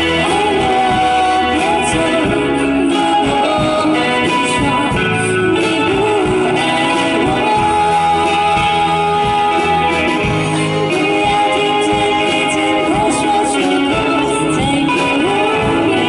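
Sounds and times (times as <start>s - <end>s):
bass guitar: 0.0s - 16.0s
drum kit: 0.0s - 16.0s
electric guitars: 0.0s - 16.0s
woman singing: 0.0s - 16.0s.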